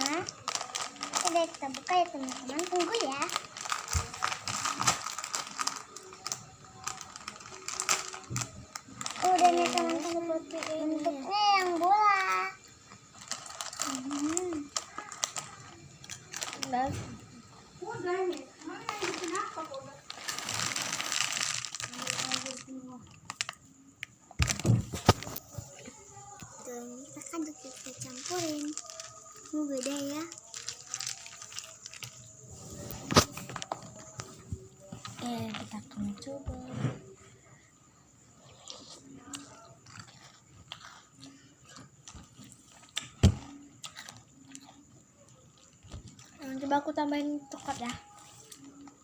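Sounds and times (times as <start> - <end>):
plastic packaging crinkling: 0.0 - 23.7, 24.4 - 36.3, 38.6 - 44.8.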